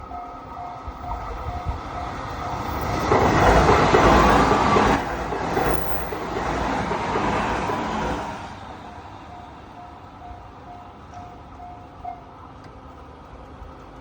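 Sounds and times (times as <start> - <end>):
train passing: 0.0 - 14.0.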